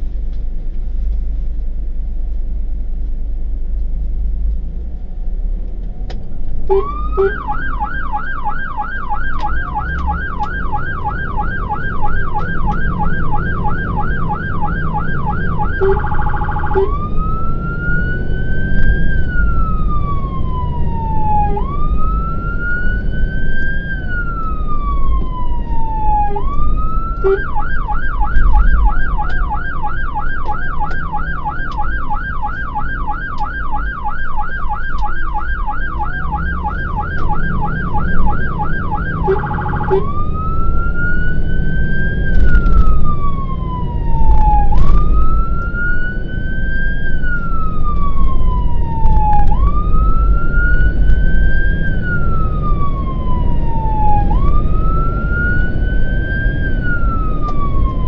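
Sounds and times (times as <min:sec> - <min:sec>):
engine and road noise rumble: 0:00.0 - 0:58.0
electronic siren yelp and wail: 0:06.7 - 0:58.0.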